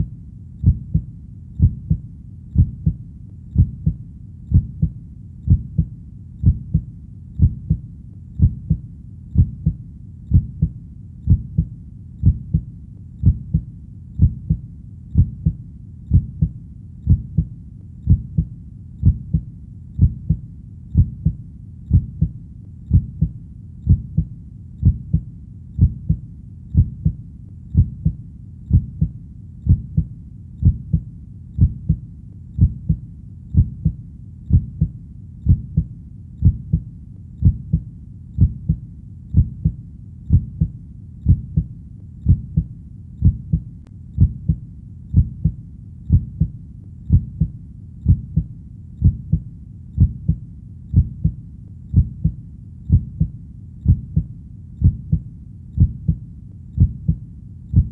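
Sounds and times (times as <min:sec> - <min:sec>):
human heartbeat: 0:00.0 - 0:57.9.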